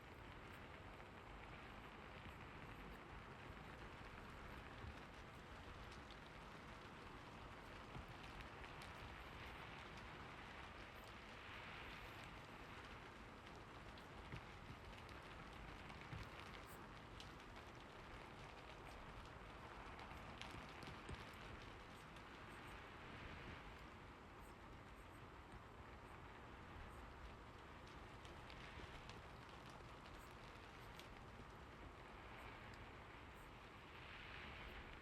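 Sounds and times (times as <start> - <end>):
faint steady rain: 0.0 - 35.0
light ticks: 0.1 - 35.0.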